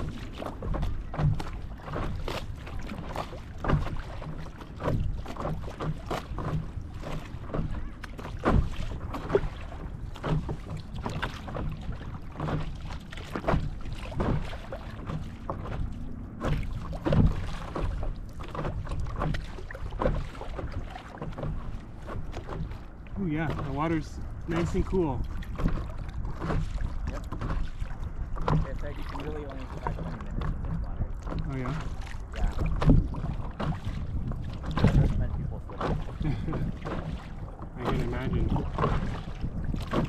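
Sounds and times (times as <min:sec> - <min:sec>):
paddle strokes in water: 0:00.0 - 0:40.0
water splashing against paddle board: 0:00.0 - 0:40.0.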